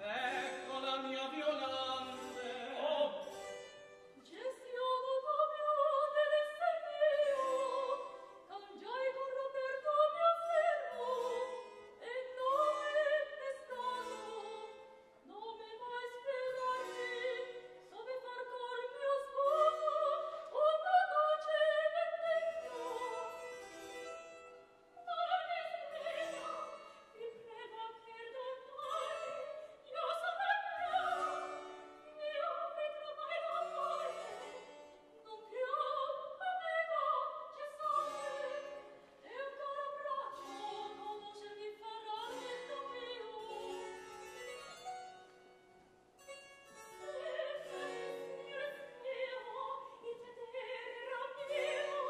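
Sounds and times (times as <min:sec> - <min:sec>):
operatic singing: 0:00.0 - 0:03.6, 0:04.2 - 0:24.1, 0:25.0 - 0:44.7, 0:46.9 - 0:52.0.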